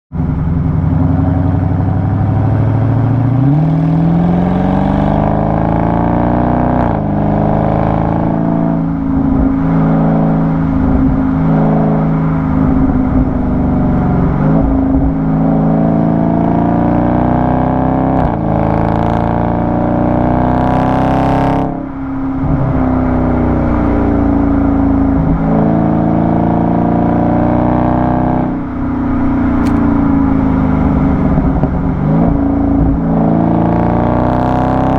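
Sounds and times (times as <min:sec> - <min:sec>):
car exhaust revving and shifting: 0:00.1 - 0:34.9.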